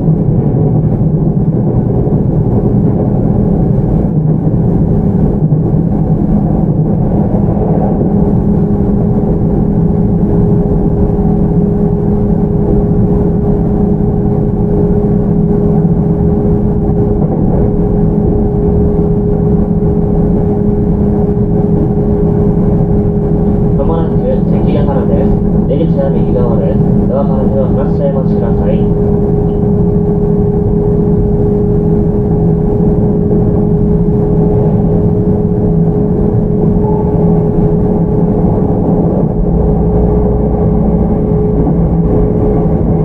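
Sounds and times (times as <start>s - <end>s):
mid-pitched motor hum: 0.0s - 43.0s
train wheels rumbling: 0.0s - 43.0s.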